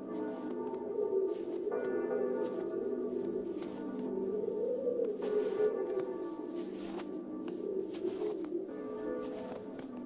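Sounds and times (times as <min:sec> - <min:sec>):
footsteps in snow: 0:00.0 - 0:10.0.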